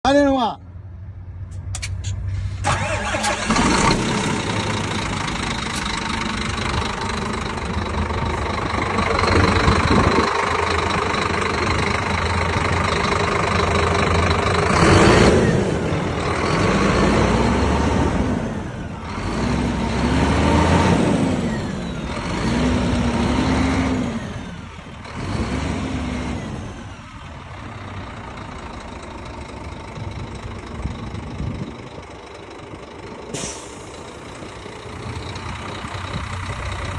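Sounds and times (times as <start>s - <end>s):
diesel truck engine revving: 2.3s - 36.9s.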